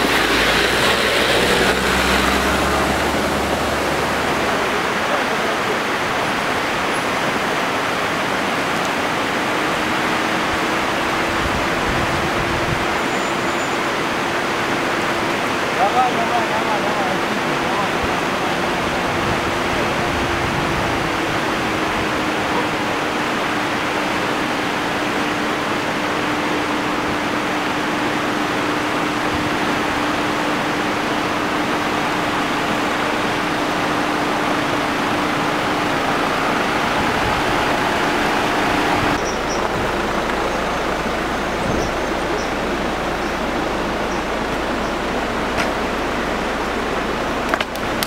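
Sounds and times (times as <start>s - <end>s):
off-road vehicle engine running: 0.0s - 48.0s.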